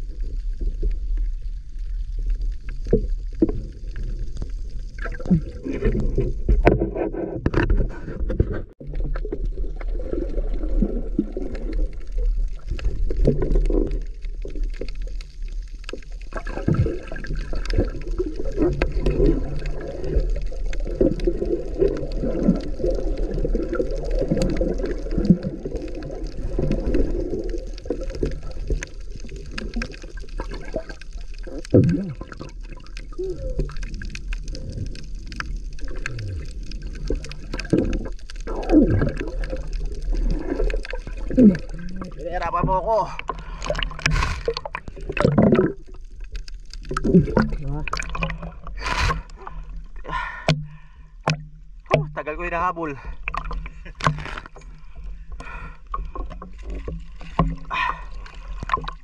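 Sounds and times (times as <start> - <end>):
underwater churning water: 0.0 - 59.0.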